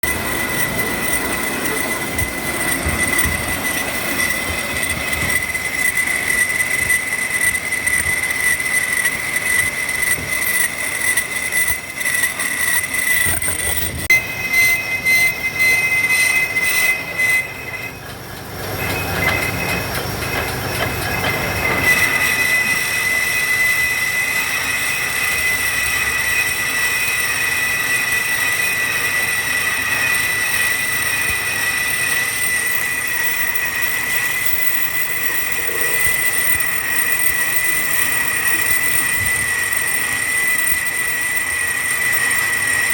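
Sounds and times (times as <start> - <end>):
high-pitched belt squeal: 0.0 - 42.9.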